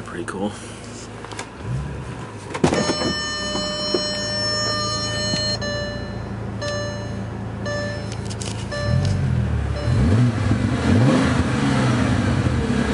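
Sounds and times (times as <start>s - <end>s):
car engine starting and idling: 0.0s - 12.9s.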